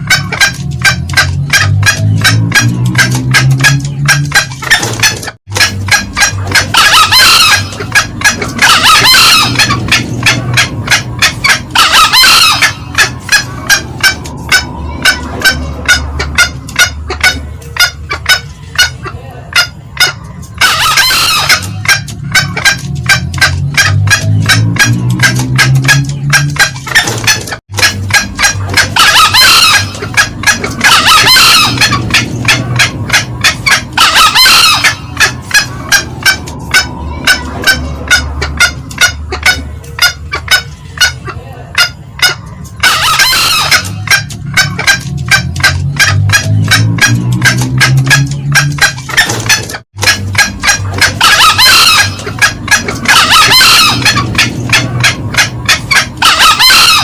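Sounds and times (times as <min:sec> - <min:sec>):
junglefowl harsh crow: 0:00.0 - 0:22.8, 0:26.6 - 0:57.0
junglefowl clucking: 0:00.0 - 0:57.0.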